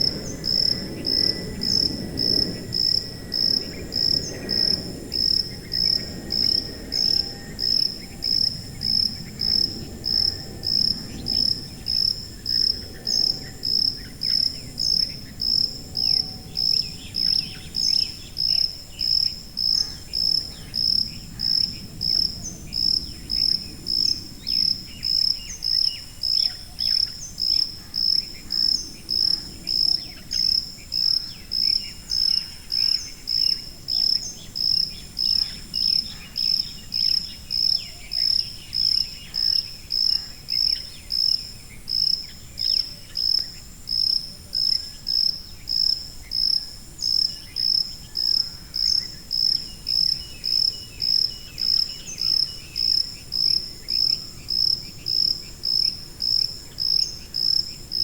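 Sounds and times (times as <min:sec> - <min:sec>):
cricket chirping: 0:00.0 - 0:58.0
faint insect chirping: 0:00.0 - 0:58.0.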